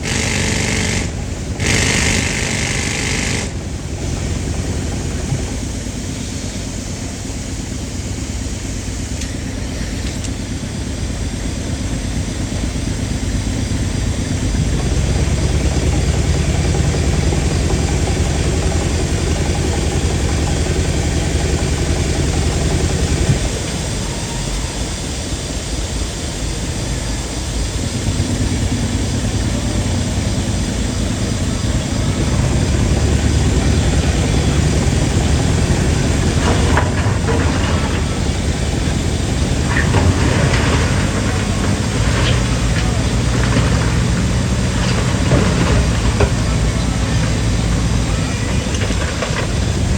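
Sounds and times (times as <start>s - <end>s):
pneumatic drilling rig pulsing: 0.0s - 49.9s.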